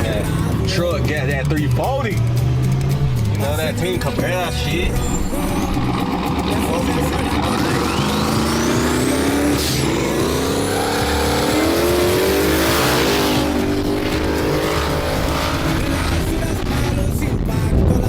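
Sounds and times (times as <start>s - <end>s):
truck engine at full throttle: 0.0s - 18.0s.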